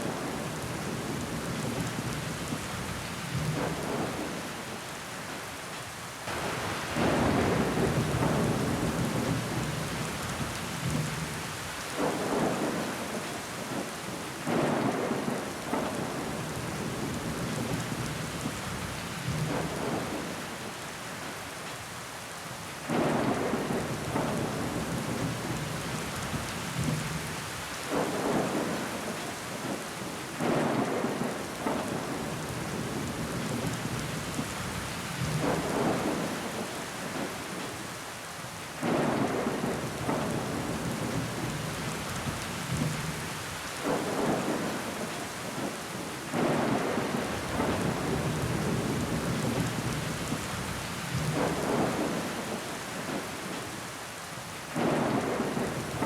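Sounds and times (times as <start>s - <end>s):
rain against a window: 0.0s - 56.0s.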